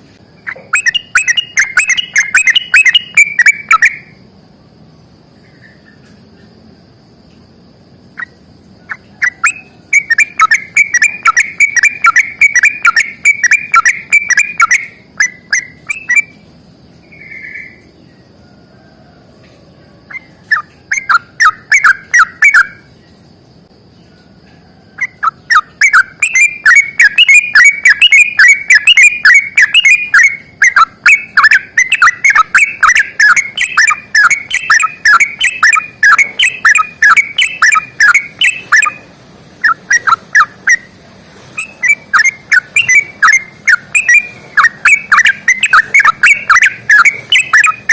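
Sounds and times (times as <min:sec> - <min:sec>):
bulbul singing rolling song: 0:00.0 - 0:47.9.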